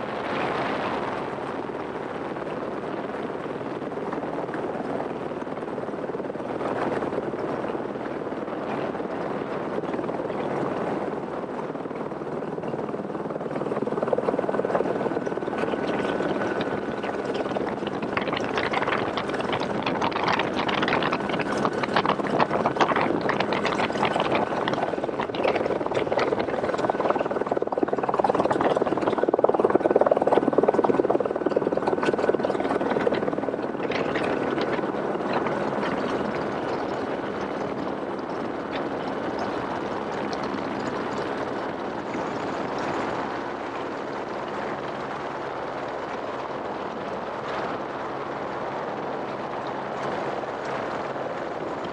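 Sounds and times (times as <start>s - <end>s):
helicopter rotor and engine noise: 0.0s - 51.9s.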